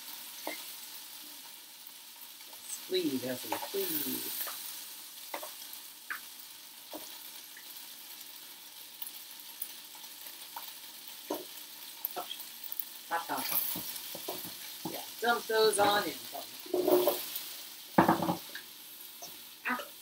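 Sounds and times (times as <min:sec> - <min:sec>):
chicken sizzling in a frying pan: 0:00.0 - 0:20.0.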